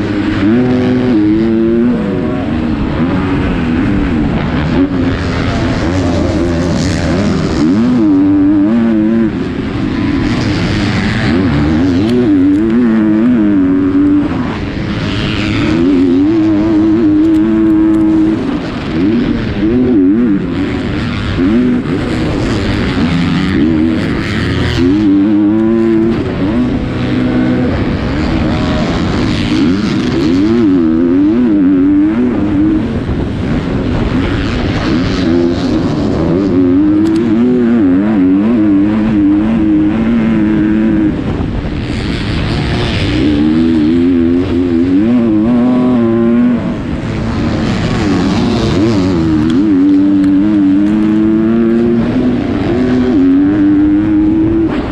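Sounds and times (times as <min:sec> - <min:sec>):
motocross bike engine revving: 0:00.0 - 0:54.9.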